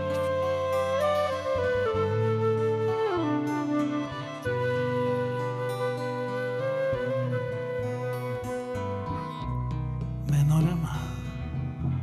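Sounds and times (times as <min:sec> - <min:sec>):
flute playing slow melody: 0:00.0 - 0:09.8.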